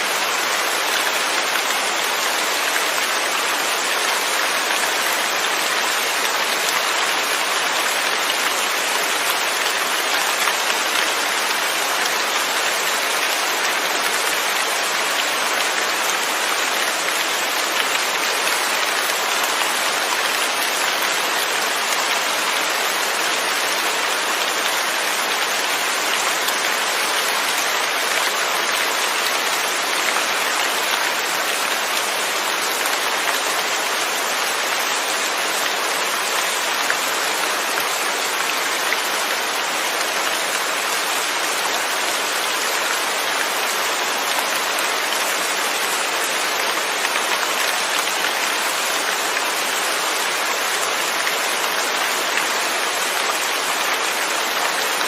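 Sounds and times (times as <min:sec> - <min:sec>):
steady rain hissing: 0:00.0 - 0:55.0.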